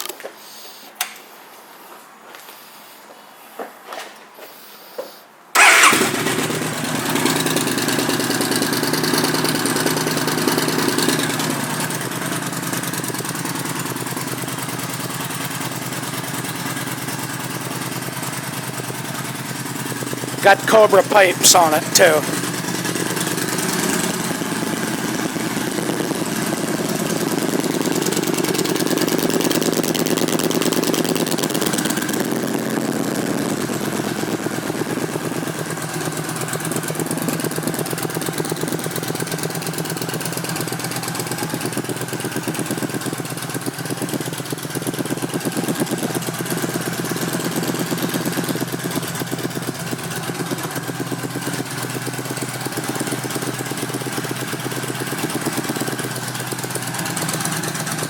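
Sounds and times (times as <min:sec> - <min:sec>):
motorcycle engine idling: 0:05.6 - 0:20.7, 0:21.8 - 0:58.0.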